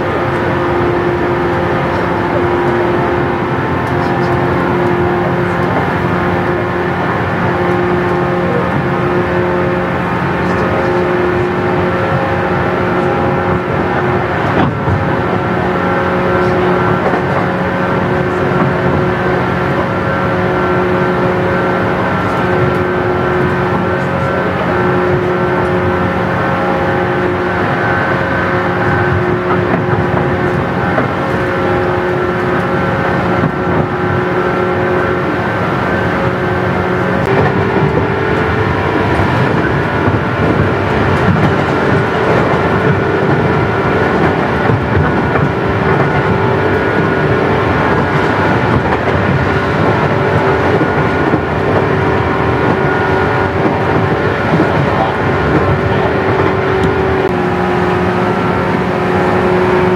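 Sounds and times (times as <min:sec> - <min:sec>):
train traction motor whine: 0:00.0 - 0:59.9
wheel and rail noise: 0:00.0 - 0:59.9.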